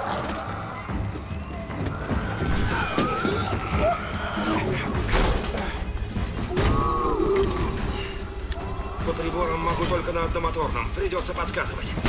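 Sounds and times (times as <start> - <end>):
dramatic film score: 0.0 - 12.0.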